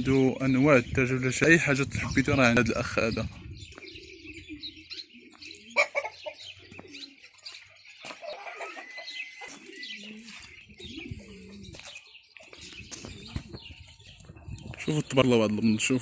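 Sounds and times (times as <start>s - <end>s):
chickens and pigeons calling: 0.0s - 16.0s
small birds chirping: 0.0s - 16.0s.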